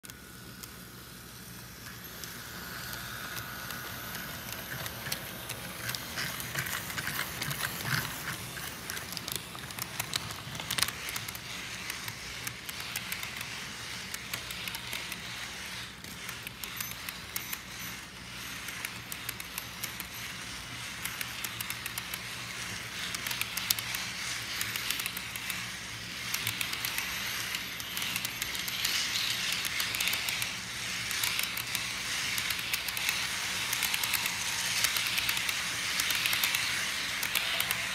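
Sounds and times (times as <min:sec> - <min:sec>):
model train wheels clicking: 0:00.0 - 0:37.9
steady low hum: 0:00.0 - 0:37.9.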